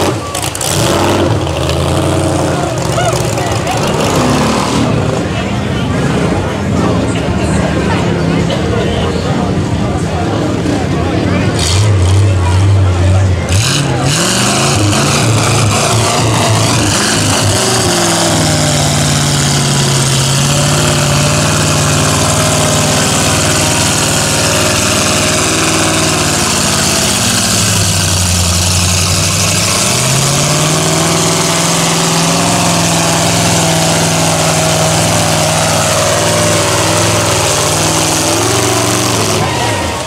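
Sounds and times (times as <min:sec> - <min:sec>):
truck engine running under load: 0:00.0 - 0:40.0.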